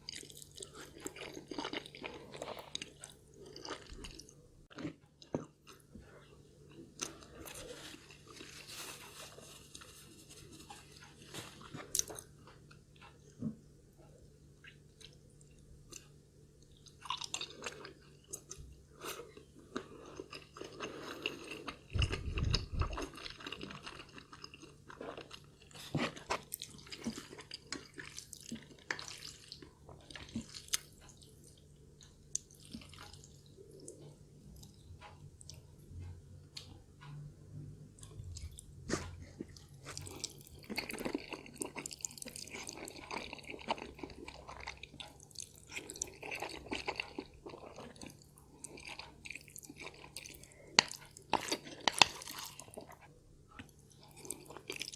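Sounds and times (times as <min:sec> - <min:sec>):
person chewing: 0:00.0 - 0:13.6, 0:14.6 - 0:37.1, 0:38.0 - 0:54.9.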